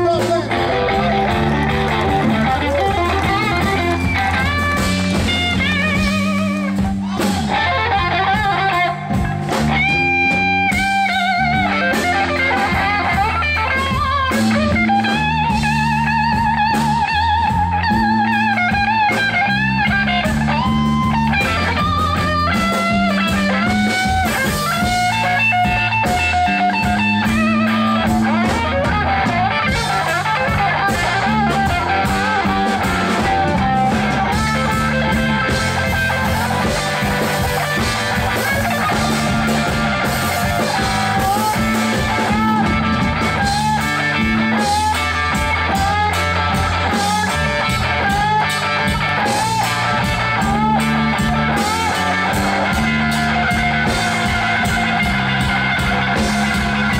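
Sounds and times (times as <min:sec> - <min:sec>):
bass guitar: 0:00.0 - 0:56.9
drum kit: 0:00.0 - 0:56.9
electric guitar solo: 0:00.0 - 0:56.9.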